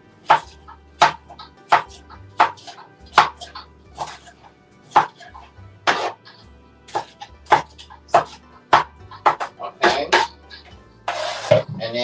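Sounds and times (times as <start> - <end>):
knife chopping on cutting board: 0.2 - 11.7.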